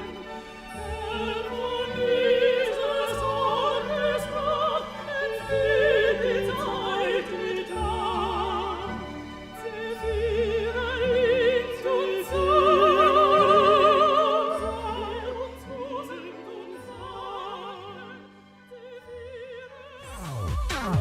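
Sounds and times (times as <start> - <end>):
operatic singing: 0.0 - 21.0
orchestral accompaniment: 0.0 - 21.0.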